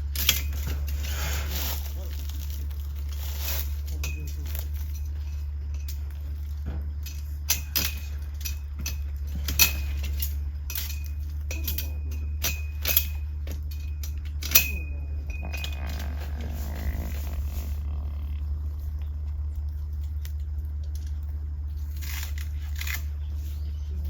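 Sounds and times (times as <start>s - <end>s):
sharp metallic clinks: 0.0s - 24.0s
steady low hum: 0.0s - 24.0s.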